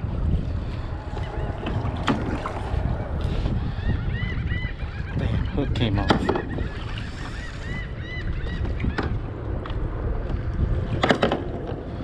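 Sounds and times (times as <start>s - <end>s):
wind and water noise: 0.0s - 12.0s.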